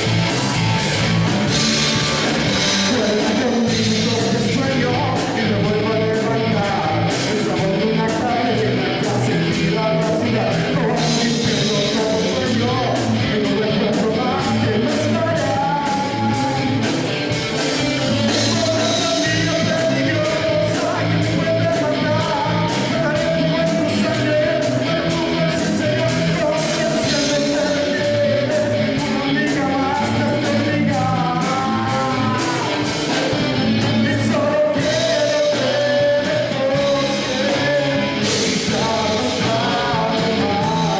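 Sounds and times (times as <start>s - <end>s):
guitar: 0.0s - 40.9s
person singing: 0.0s - 40.9s
rock band playing: 0.0s - 40.9s
steady drum beat: 0.0s - 40.9s.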